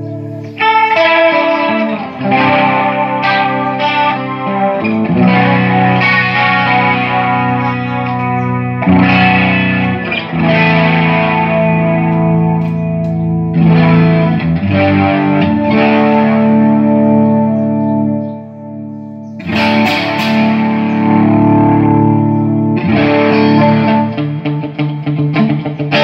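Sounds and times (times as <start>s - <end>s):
electric guitar chords ringing: 0.0s - 26.0s.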